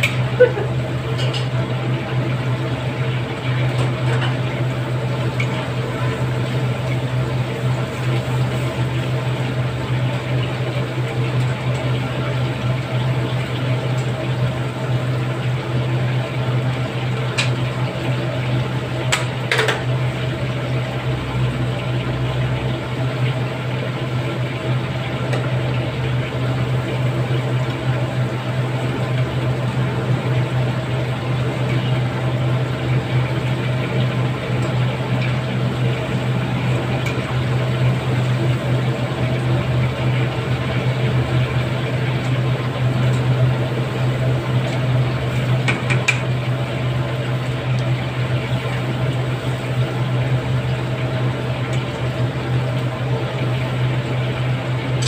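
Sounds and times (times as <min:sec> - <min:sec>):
oil bubbling and sizzling: 0:00.0 - 0:55.0.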